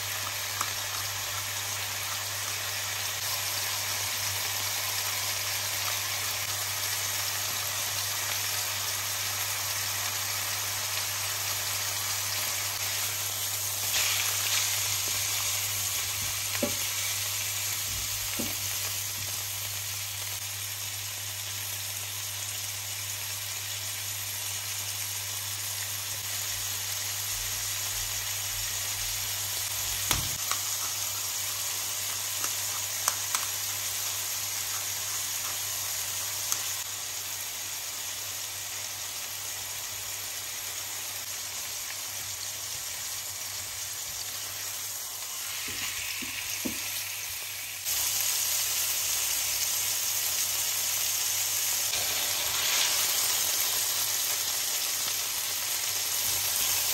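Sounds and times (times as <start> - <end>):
chicken sizzling in a pan: 0.0 - 56.9.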